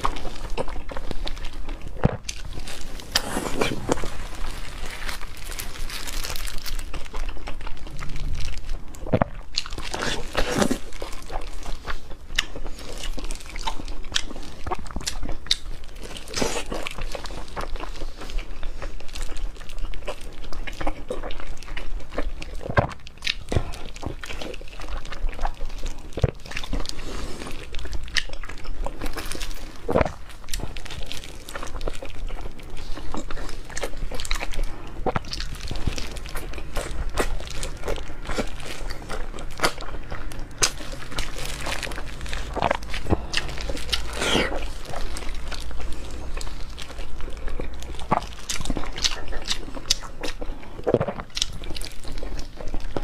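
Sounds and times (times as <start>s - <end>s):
close-up chewing and smacking: 0.0s - 53.0s.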